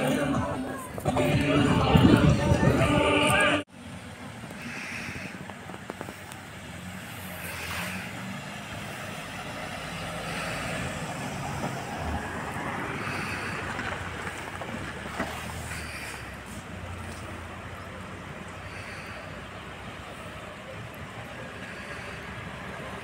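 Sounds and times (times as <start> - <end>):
car engine: 0.0 - 23.0
road noise: 0.0 - 23.0.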